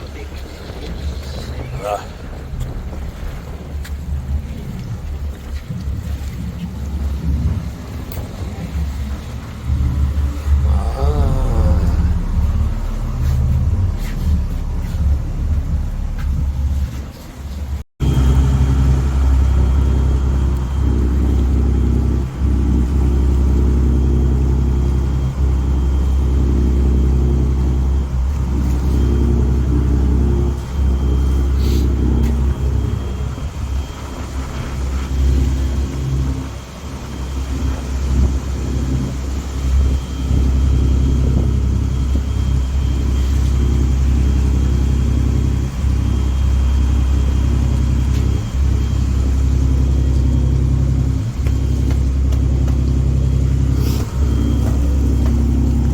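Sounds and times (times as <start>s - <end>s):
ferry engine humming: 0.0s - 55.9s.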